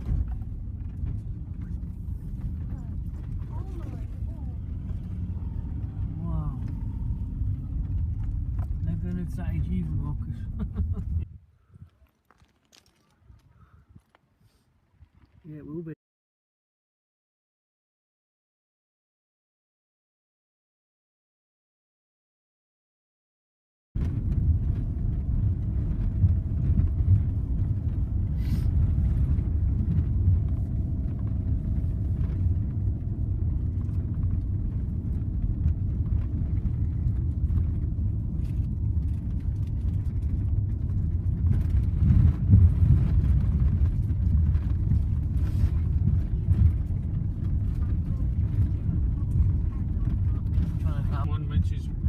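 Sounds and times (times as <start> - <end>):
coach engine and road rumble: 0.0 - 16.0, 24.0 - 52.0.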